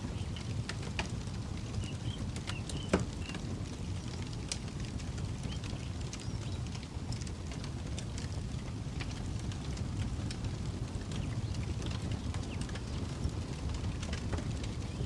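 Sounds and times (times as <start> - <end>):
campfire crackling and popping: 0.0 - 15.0
low rumble of wind and flame: 0.0 - 15.0.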